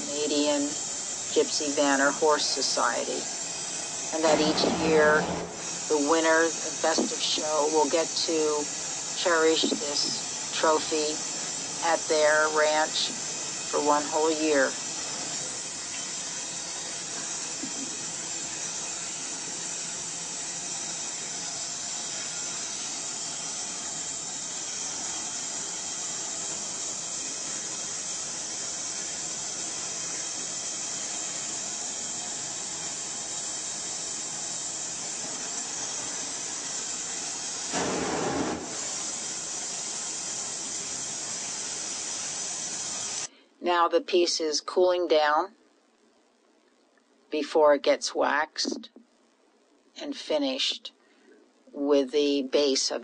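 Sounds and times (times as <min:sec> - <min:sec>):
gas torch flame hissing: 0:00.0 - 0:43.3.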